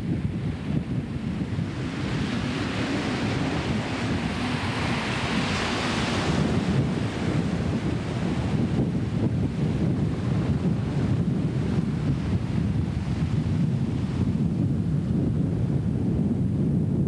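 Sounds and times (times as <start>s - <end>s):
wind buffeting the microphone: 0.0s - 17.0s
small waves washing on shore: 0.2s - 15.1s.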